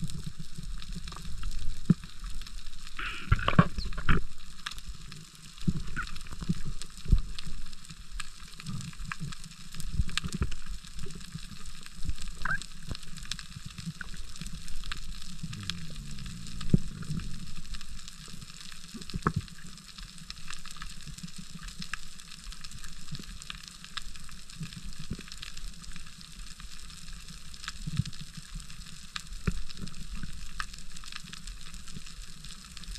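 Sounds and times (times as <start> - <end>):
low rumble of water: 0.0 - 32.9.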